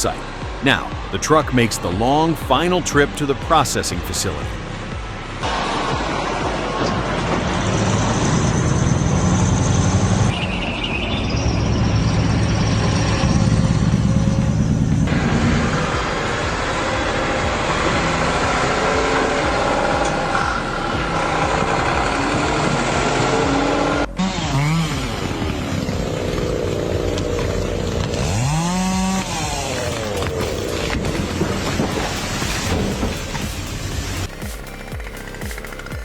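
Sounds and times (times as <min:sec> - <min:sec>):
truck diesel engine drone: 0:00.0 - 0:36.0.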